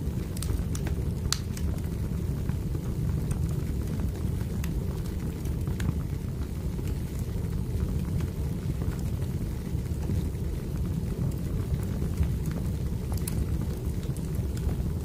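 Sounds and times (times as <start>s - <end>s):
burning logs crackling: 0.0s - 15.0s
low rumble of flames: 0.0s - 15.0s.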